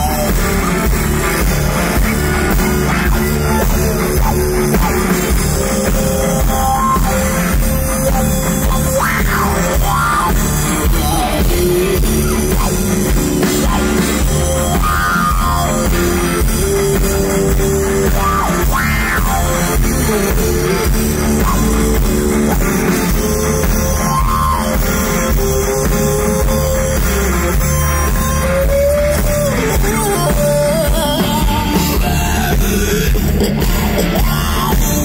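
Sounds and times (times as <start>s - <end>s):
live hard rock band: 0.0s - 35.0s
talk box guitar wah sweeps: 0.0s - 35.0s.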